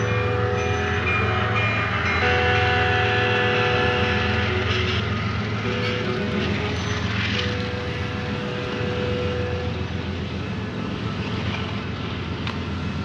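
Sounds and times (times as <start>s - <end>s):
thin whine: 0.0s - 12.0s
model train wheels and motors rumbling: 0.0s - 13.0s.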